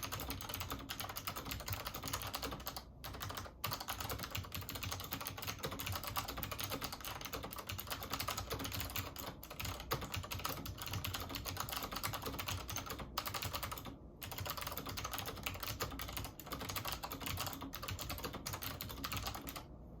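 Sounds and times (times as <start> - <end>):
clicky keyboard typing: 0.0 - 19.7.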